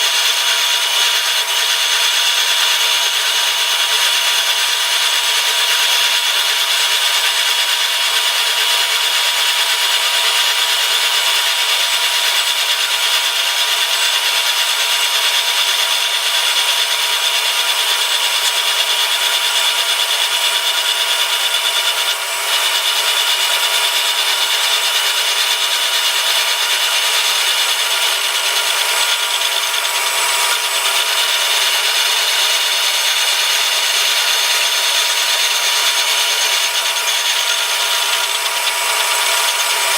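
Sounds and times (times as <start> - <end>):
milling machine cutting steel: 0.0 - 39.9.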